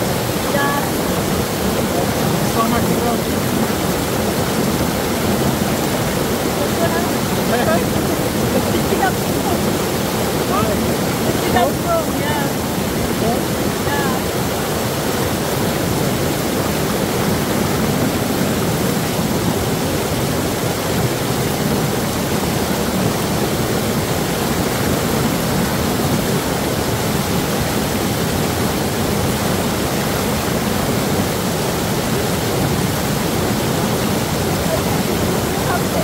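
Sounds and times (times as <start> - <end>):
water rushing over boulders: 0.0 - 36.0.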